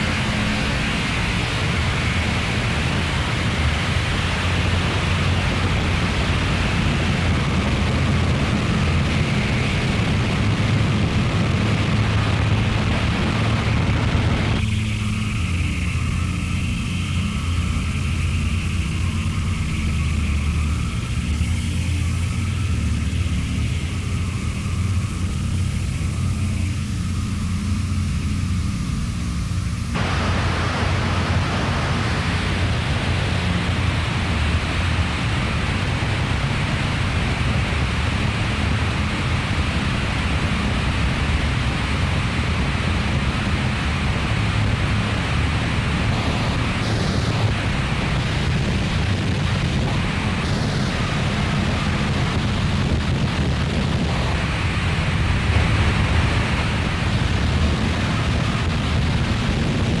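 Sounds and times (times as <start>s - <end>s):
low electronic rumble: 0.0s - 60.0s
dense steady hiss: 11.0s - 60.0s.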